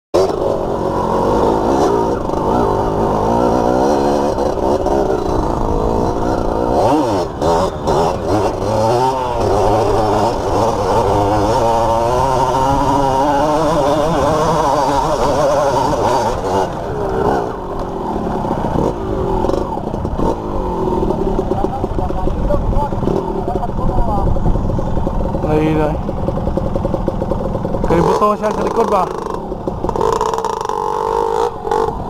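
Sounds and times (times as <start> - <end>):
dirt bike engine revving: 0.2 - 32.0.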